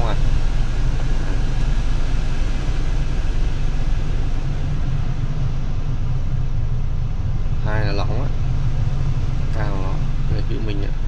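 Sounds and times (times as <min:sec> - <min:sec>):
blower fan rushing air: 0:00.0 - 0:11.0
low steady hum: 0:00.0 - 0:11.0.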